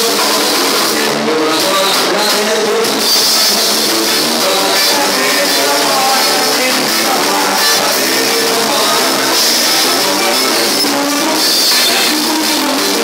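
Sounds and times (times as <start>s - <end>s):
drums: 0.0s - 13.0s
electric bass: 0.0s - 13.0s
live band playing: 0.0s - 13.0s.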